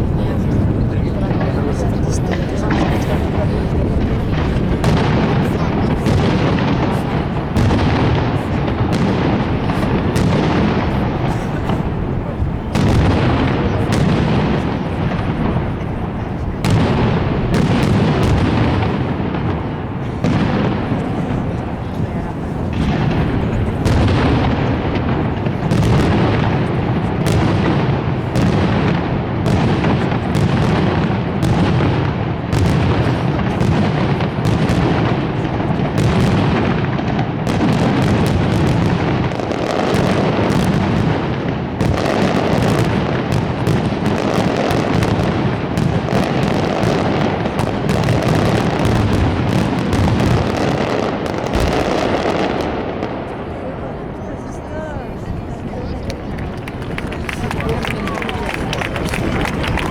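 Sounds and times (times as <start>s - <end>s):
fireworks bangs and cracks: 0.0s - 54.6s, 55.2s - 59.9s.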